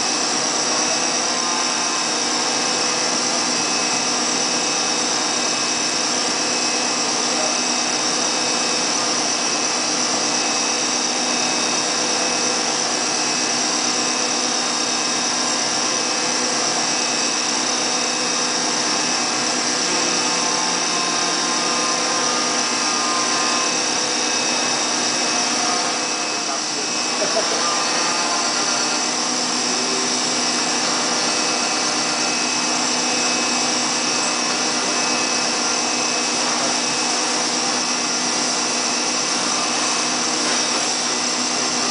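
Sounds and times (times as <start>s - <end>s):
milling machine whining: 0.0s - 41.9s.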